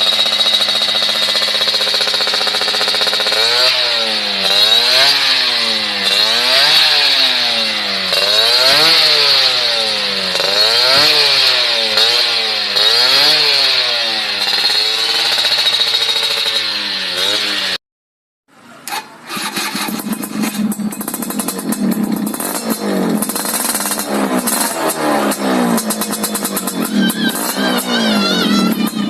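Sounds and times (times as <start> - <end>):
crackling exhaust: 0.0 - 17.8, 18.8 - 29.0
two-stroke motorcycle revving: 0.0 - 17.8, 18.8 - 29.0.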